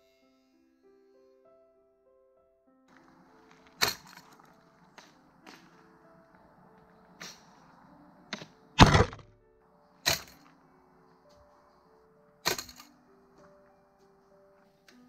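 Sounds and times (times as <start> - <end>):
background music with held notes: 0.0 - 15.0.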